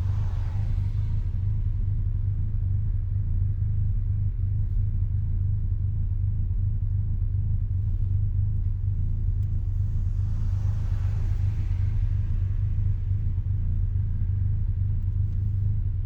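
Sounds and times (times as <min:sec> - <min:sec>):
rotary engine low rumble: 0:00.0 - 0:16.0.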